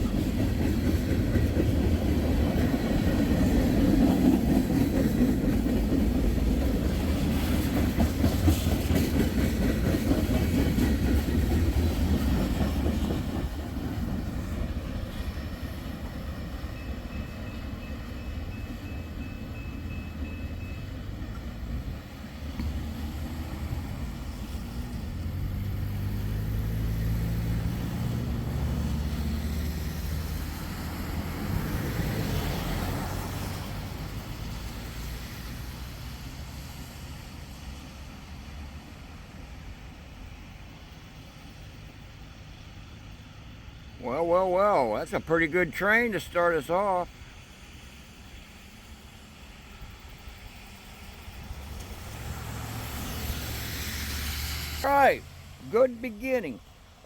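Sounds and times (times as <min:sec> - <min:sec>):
train cars rolling on rails: 0:00.0 - 0:57.0.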